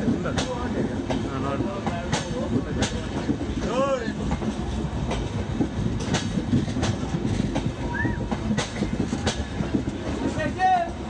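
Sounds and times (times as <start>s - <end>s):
train rumbling on track: 0.0s - 11.0s
wheels clicking over rail joints: 0.0s - 11.0s.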